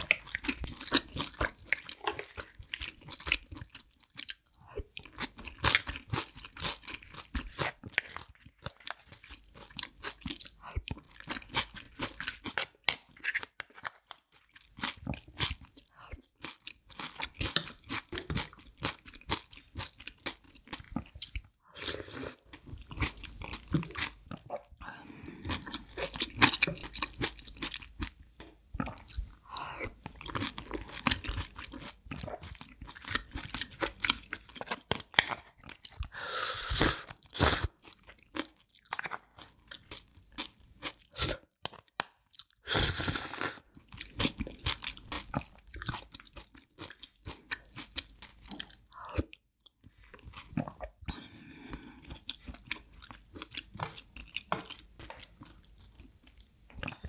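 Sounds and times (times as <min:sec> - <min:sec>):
crunching and chewing crab: 0:00.0 - 0:21.5, 0:22.4 - 0:36.2, 0:37.0 - 0:57.0.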